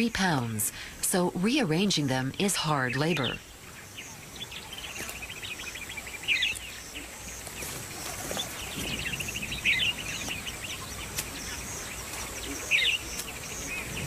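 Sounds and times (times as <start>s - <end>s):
small birds chirping and trilling: 0.0s - 14.0s.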